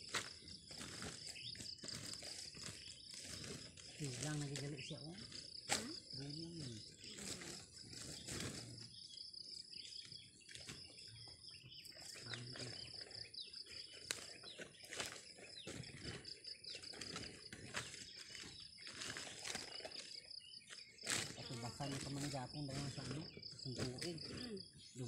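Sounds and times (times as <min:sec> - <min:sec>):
bird chirps: 0:00.0 - 0:25.0
crickets chirring: 0:00.0 - 0:25.0.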